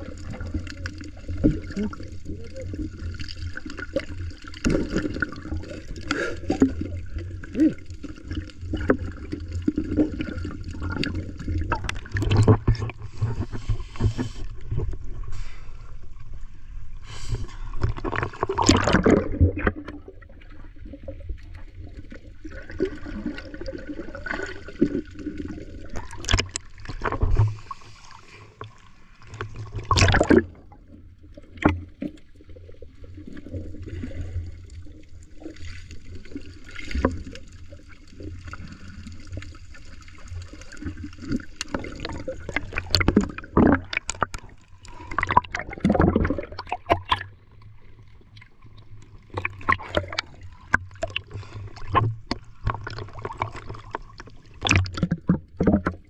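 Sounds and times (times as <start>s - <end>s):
rushes of water: 0.0s - 56.0s
underwater sloshing and gurgling: 0.0s - 56.0s.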